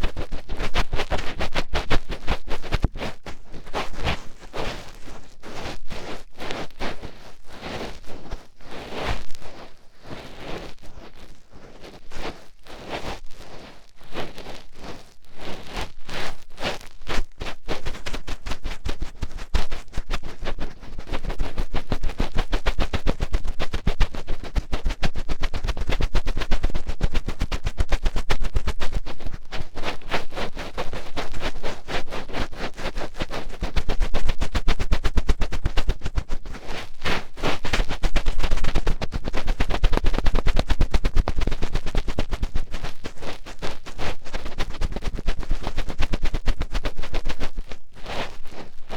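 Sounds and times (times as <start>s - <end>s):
close-up scratching and crackling: 0.0s - 48.9s.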